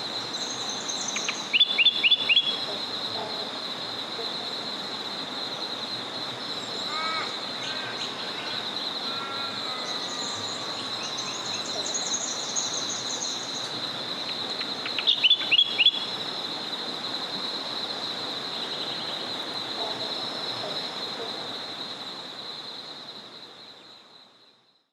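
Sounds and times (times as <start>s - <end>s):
small river flowing: 0.0s - 24.2s.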